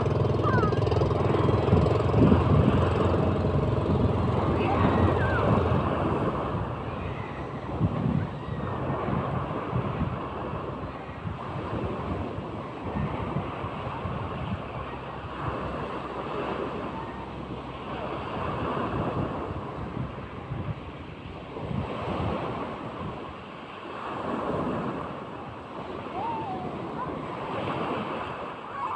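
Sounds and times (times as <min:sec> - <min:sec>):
waves breaking: 0:00.0 - 0:28.9
wind buffeting microphone: 0:00.0 - 0:28.9.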